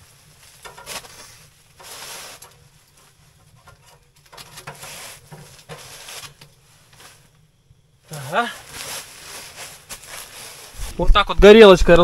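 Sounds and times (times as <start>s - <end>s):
handling rustling: 0.0s - 7.4s, 8.2s - 11.0s.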